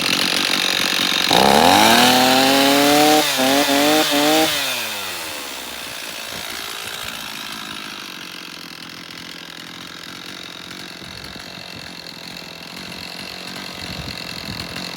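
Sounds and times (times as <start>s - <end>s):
chainsaw engine idling: 0.0s - 14.9s.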